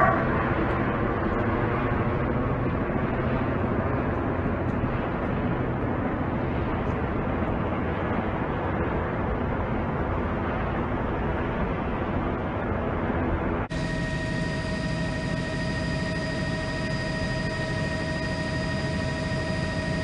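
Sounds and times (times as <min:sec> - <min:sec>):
low hum: 0:00.0 - 0:20.0
outdoor rumble and hiss: 0:00.0 - 0:20.0.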